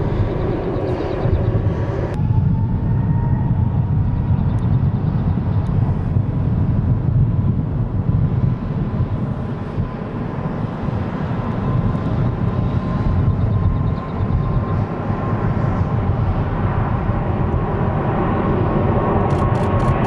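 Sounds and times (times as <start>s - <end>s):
jet engines low rumble: 0.0s - 20.0s.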